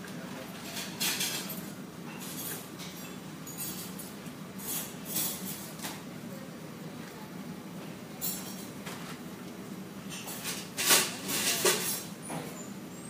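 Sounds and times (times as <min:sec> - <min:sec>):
low cafe hum: 0:00.0 - 0:13.0.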